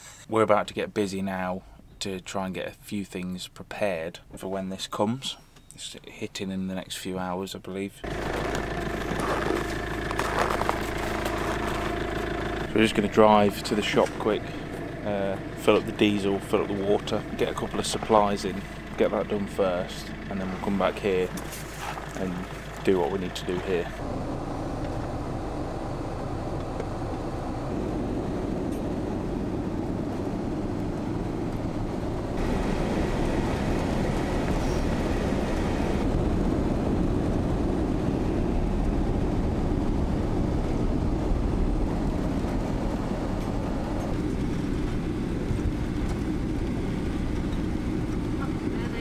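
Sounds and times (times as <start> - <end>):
van engine and tyre drone: 8.0 - 49.0.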